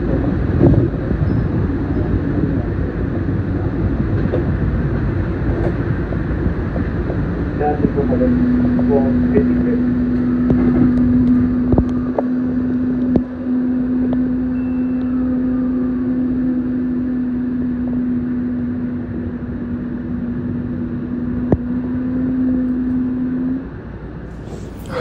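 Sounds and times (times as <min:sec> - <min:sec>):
train low hum: 0:00.0 - 0:25.0
train rumble: 0:00.0 - 0:25.0.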